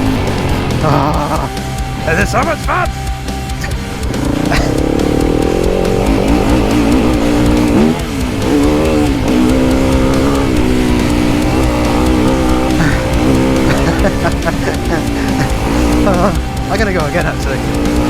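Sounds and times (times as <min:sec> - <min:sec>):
motorcycle engine revving: 0:00.0 - 0:18.0
music with electric guitar: 0:00.0 - 0:18.0.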